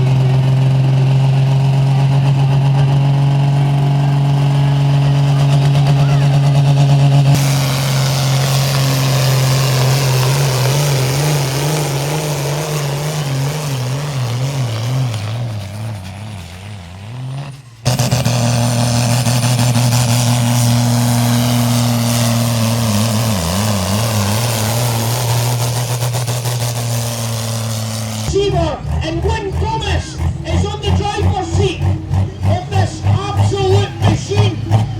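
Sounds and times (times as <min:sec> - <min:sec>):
engine at steady high revs: 0:00.0 - 0:34.9
tractor engine running hard: 0:00.0 - 0:34.9.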